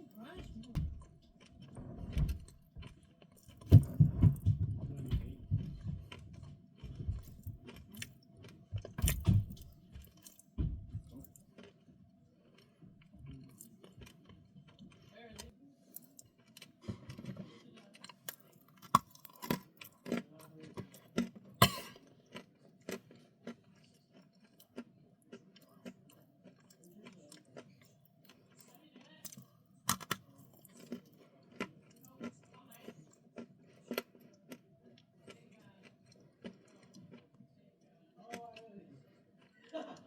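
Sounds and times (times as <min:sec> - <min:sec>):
chewing crunchy food: 0:00.0 - 0:40.0.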